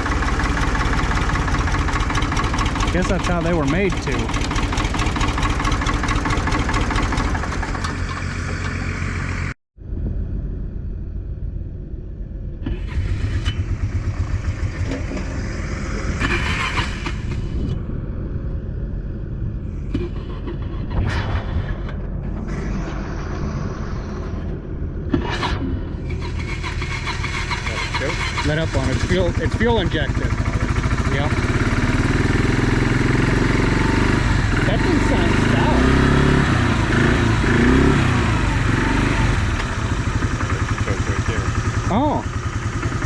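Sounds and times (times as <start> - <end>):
engine idling: 0.0 - 9.6, 10.4 - 23.5, 24.2 - 43.0.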